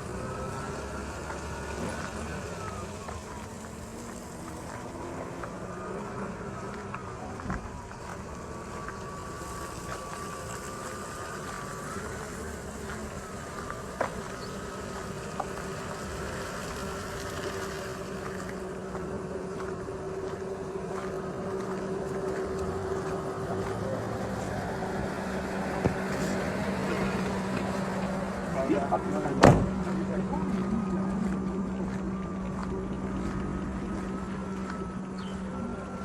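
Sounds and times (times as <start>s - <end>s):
engine hum: 0.0s - 36.0s.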